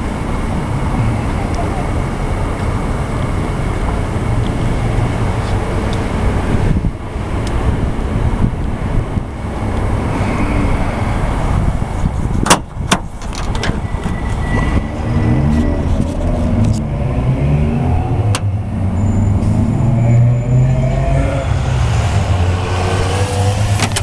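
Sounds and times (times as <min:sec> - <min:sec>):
vehicle engine humming: 0:00.0 - 0:24.0
wind rumbling on microphone: 0:00.0 - 0:24.0.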